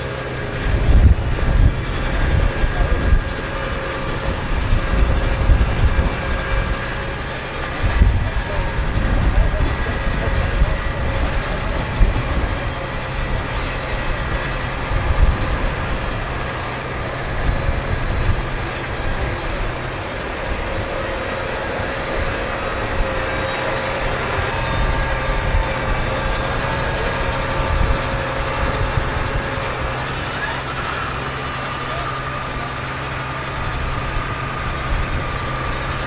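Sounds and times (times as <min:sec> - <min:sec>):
steady high whine: 0:00.0 - 0:36.0
tractor diesel engine rumbling: 0:00.0 - 0:36.0.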